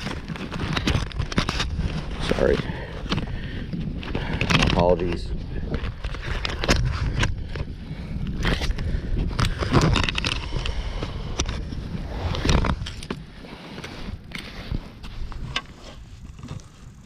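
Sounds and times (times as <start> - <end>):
knocks and scrapes in kayak: 0.0 - 7.7, 8.4 - 17.0.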